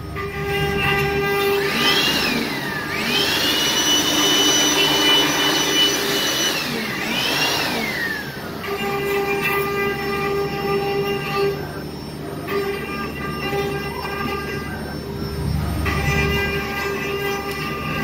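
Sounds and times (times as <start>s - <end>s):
router machine whine: 0.0s - 18.0s.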